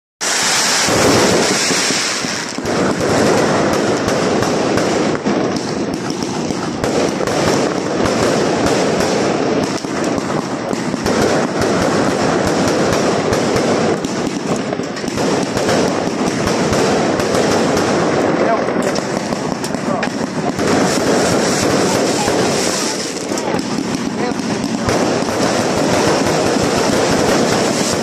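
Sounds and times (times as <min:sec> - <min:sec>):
fireworks crackling and banging: 0:00.2 - 0:28.0.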